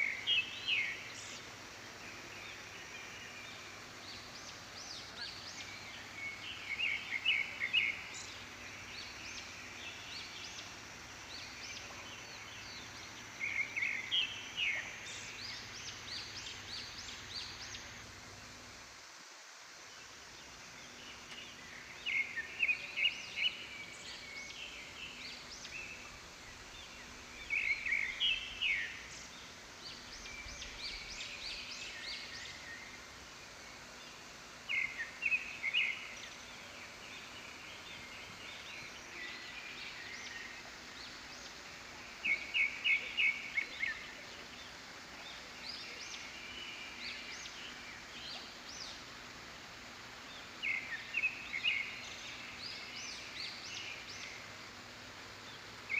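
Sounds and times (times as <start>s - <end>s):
steady background hiss: 0.0s - 55.9s.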